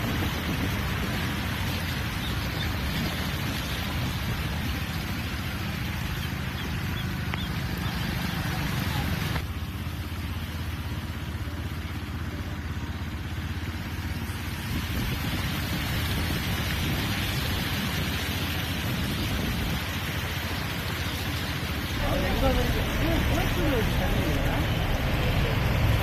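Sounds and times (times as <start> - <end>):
rainstorm rushing: 0.0 - 9.4, 14.0 - 26.0
vehicles driving through floodwater: 0.0 - 26.0.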